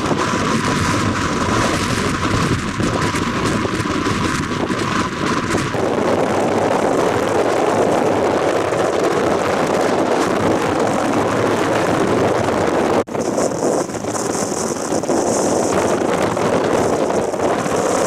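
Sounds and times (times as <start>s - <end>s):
gale wind buffeting microphone: 0.0s - 18.0s.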